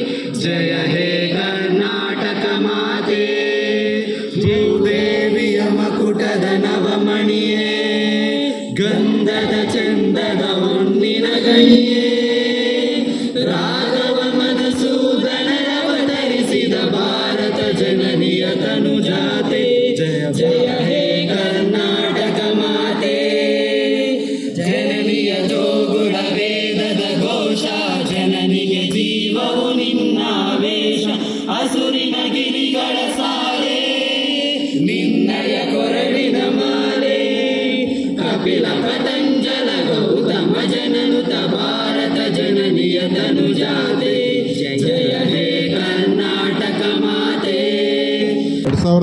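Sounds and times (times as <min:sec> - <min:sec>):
group singing in unison: 0:00.0 - 0:48.7.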